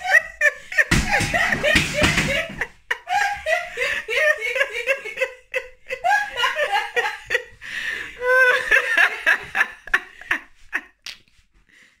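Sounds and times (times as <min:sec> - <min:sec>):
person laughing hard: 0:00.0 - 0:11.0.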